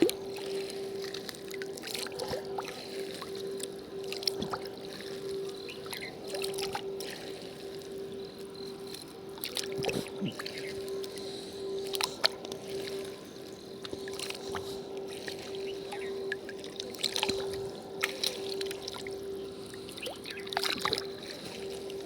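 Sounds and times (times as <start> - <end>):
steady hum: 0.0 - 22.0
water trickling and splashing: 0.0 - 22.0.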